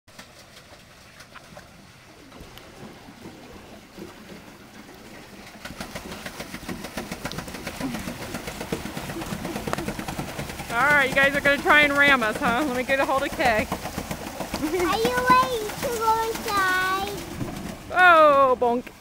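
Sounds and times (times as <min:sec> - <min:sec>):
paddle wheel churning water: 0:00.1 - 0:19.0.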